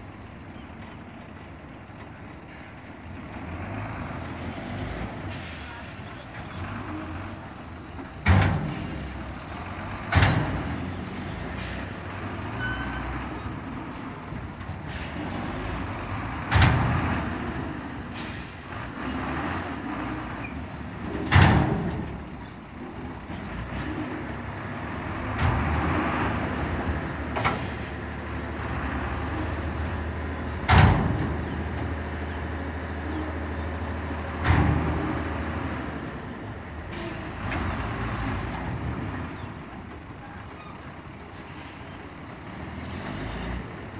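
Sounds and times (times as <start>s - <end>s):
truck engines running: 0.0s - 43.9s.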